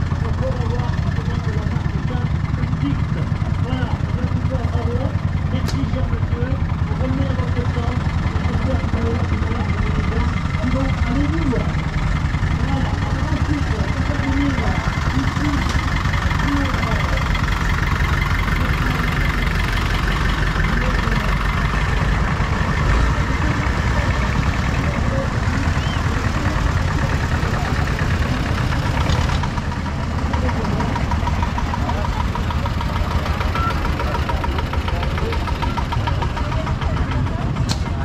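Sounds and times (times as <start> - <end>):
crowd chatter: 0.0 - 38.0
engine idling: 0.0 - 38.0.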